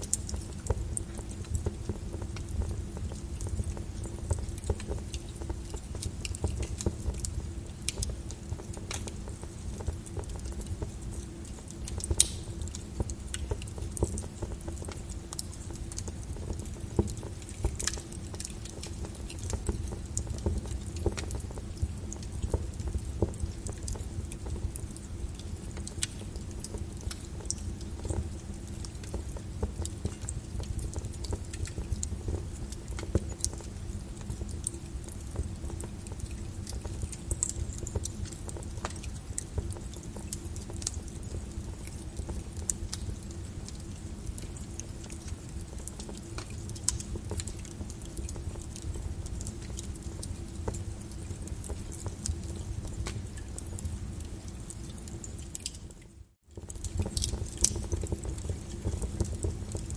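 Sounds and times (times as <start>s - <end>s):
fireplace crackling: 0.0s - 59.9s
rain on a window: 0.0s - 59.9s.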